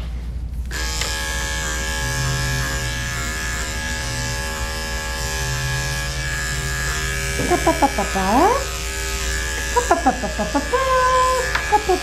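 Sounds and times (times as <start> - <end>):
electric clipper buzzing: 0.6 - 12.0.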